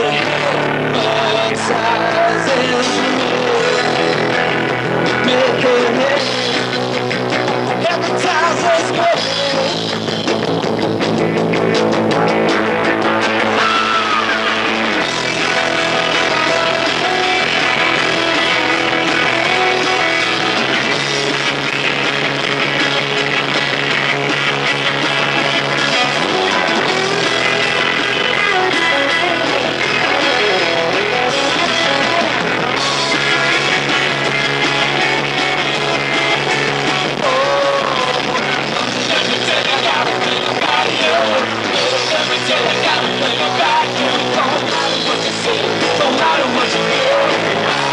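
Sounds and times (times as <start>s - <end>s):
lead guitar line bending pitch: 0.0s - 47.9s
live rock band playing: 0.0s - 47.9s.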